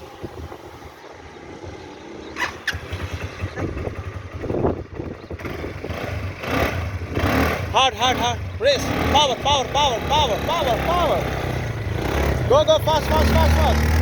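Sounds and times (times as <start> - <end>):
quad bike engine rumble: 0.0 - 14.0.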